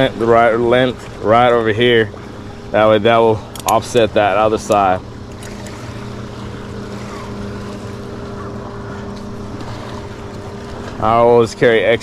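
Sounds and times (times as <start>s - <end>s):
motorboat engine drone: 0.0s - 12.0s.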